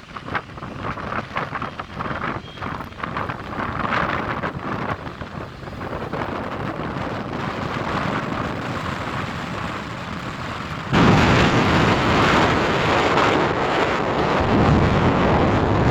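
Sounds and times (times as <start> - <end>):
wind blowing across microphone: 0.0 - 15.9.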